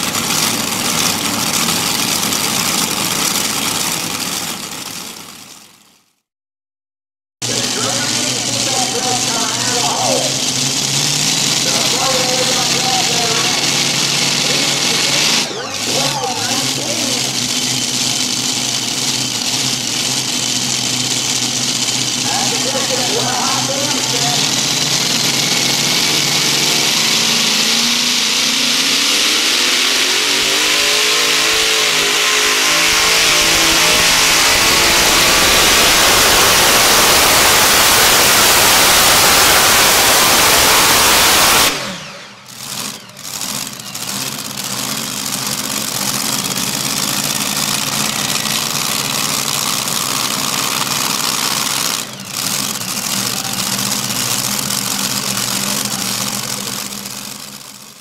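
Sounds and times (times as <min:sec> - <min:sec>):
pulling tractor engines roaring: 0:00.0 - 0:06.1, 0:07.4 - 0:58.0.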